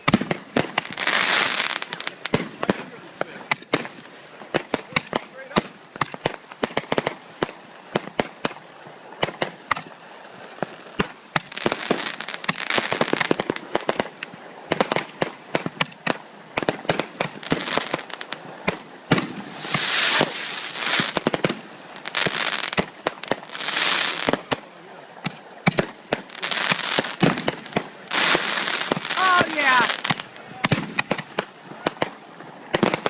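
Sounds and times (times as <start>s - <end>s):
firecrackers crackling: 0.0s - 33.0s
fireworks bangs and pops: 0.0s - 33.0s.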